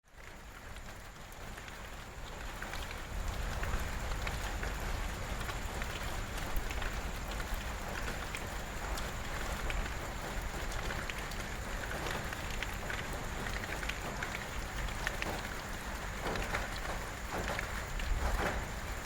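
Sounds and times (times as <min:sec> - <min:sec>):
heavy rain falling: 0:00.1 - 0:19.0
raindrop splats: 0:00.1 - 0:19.0.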